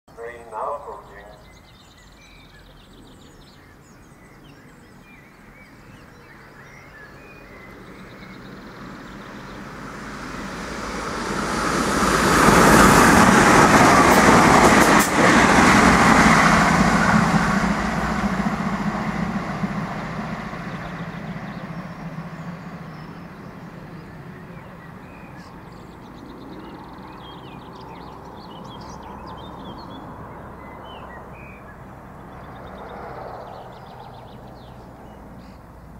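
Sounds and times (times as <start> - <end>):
diesel train passing: 0.1 - 4.0, 5.0 - 35.9.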